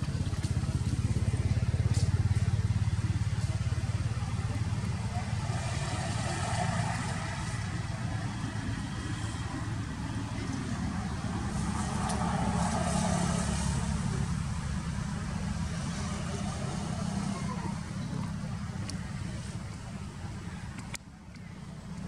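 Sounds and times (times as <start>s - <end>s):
faint distant voices: 0.0s - 22.0s
road traffic rumble: 0.0s - 22.0s.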